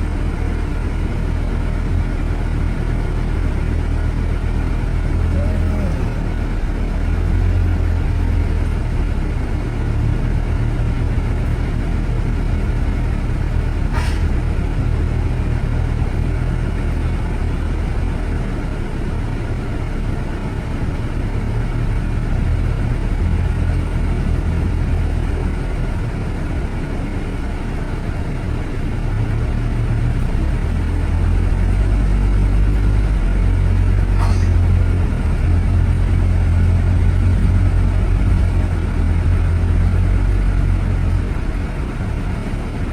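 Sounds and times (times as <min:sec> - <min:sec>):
city road traffic rumble: 0:00.0 - 0:42.9.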